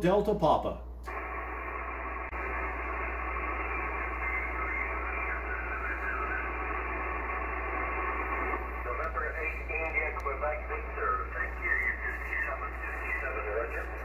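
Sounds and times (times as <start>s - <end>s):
steady low hum: 0.0s - 14.0s
radio band-noise hiss: 1.1s - 14.0s.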